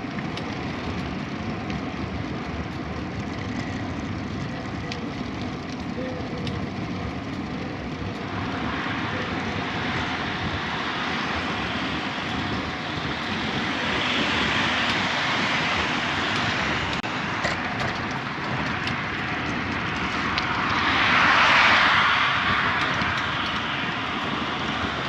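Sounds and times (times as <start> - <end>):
wind and bicycle tyres rushing: 0.0 - 25.0.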